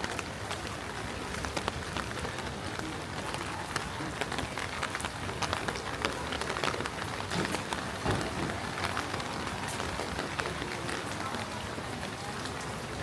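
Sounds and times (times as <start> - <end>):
raindrop impacts close by: 0.0 - 13.0.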